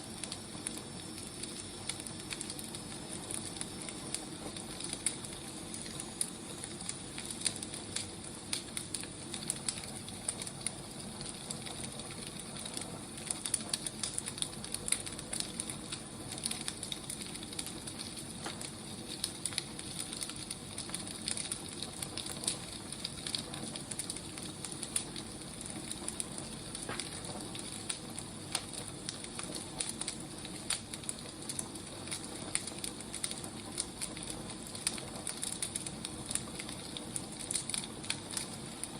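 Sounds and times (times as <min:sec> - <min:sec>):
fire hissing: 0:00.0 - 0:38.9
firewood crackling and popping: 0:00.0 - 0:38.9.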